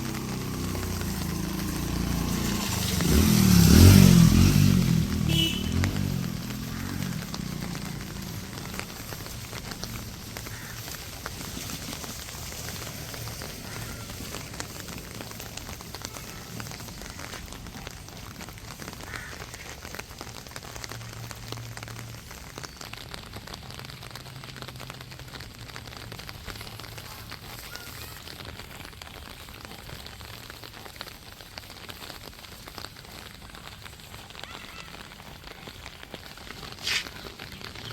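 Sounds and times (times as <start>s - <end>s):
rain pattering on street: 0.0s - 37.9s.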